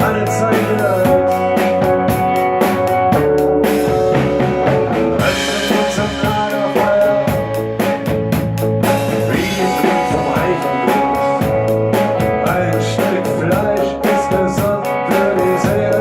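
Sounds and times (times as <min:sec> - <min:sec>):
drum kit beat: 0:00.0 - 0:16.0
rock band music: 0:00.0 - 0:16.0.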